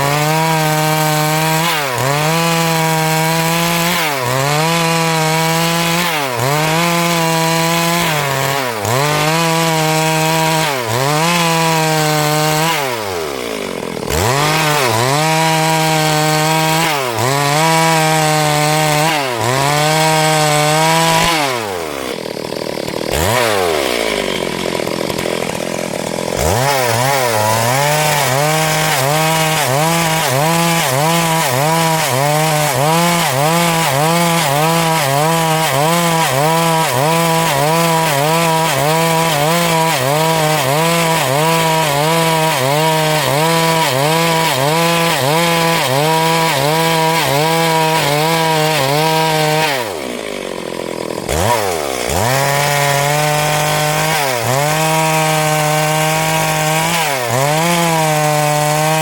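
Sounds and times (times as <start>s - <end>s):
chainsaw ripping through log: 0.0s - 59.0s.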